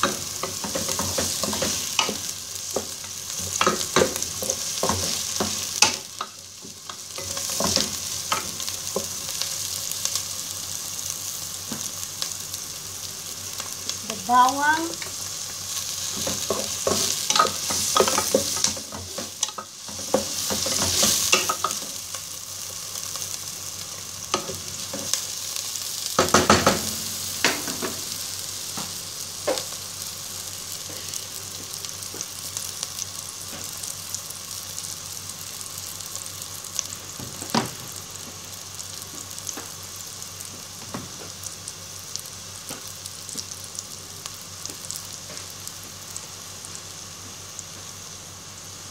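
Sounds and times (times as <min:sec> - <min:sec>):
onion sizzling in hot oil: 0:00.0 - 0:48.9.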